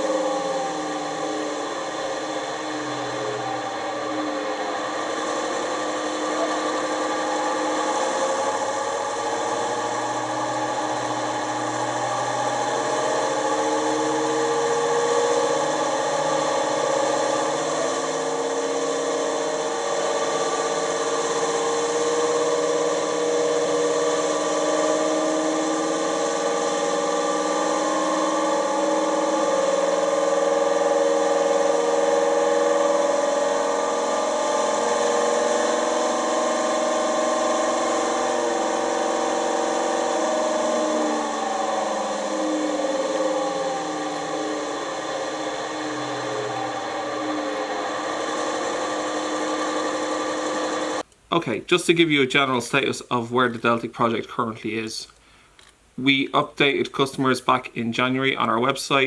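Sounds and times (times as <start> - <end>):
diesel engine sound from small speaker: 0.0 - 51.5.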